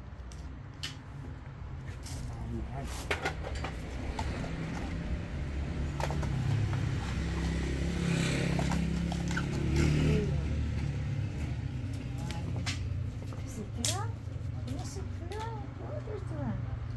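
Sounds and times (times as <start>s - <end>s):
low engine hum: 1.2s - 16.9s.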